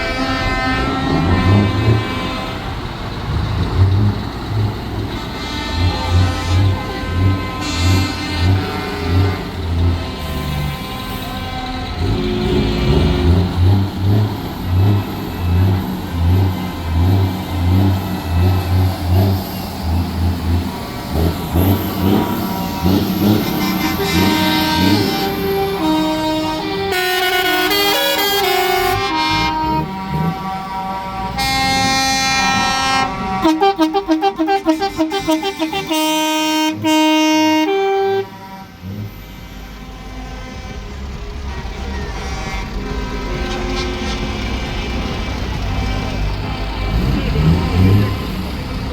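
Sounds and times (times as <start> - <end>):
musical air horn playing tune: 0.0 - 2.9, 5.0 - 18.4, 19.9 - 48.6
truck engines revving: 0.0 - 48.9.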